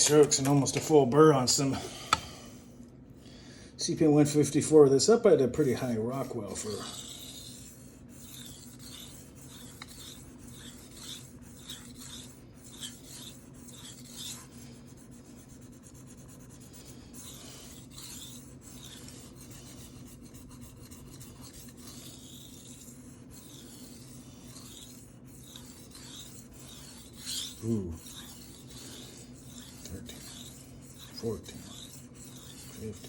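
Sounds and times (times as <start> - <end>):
steady low hum: 0.0 - 33.0
knife scraping on whetstone: 5.8 - 33.0.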